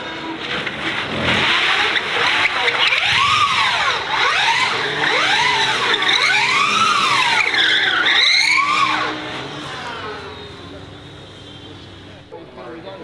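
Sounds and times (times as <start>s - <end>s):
car engine revving: 0.0s - 12.4s
tyres squealing: 0.4s - 12.4s.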